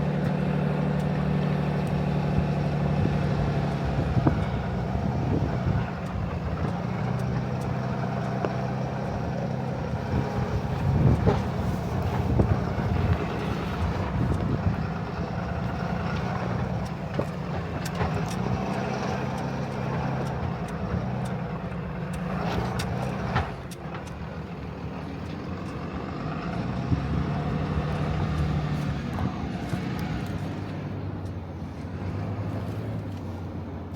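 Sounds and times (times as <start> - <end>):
diesel truck engine under load: 0.0 - 33.9
knocks and rattles over bumps: 0.0 - 33.9.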